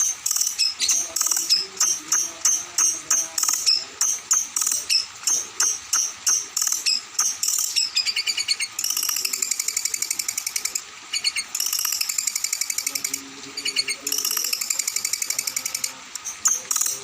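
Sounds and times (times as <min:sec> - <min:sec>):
songbird sharp high notes and trill: 0:00.0 - 0:17.0.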